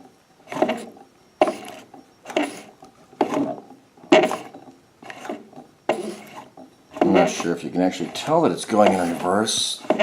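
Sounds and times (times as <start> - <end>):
sewing machine mechanism clattering: 1.5 - 10.0.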